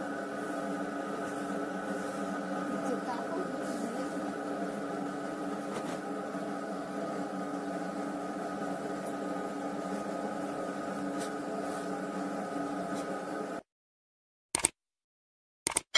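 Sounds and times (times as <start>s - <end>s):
mechanical hum with held tones: 0.0s - 13.6s.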